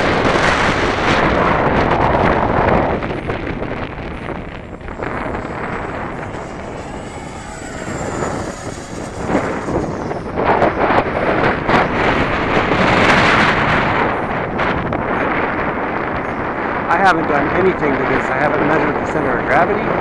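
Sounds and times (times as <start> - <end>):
model jet fan whine: 0.0 - 20.0
wind buffeting microphone: 0.0 - 20.0.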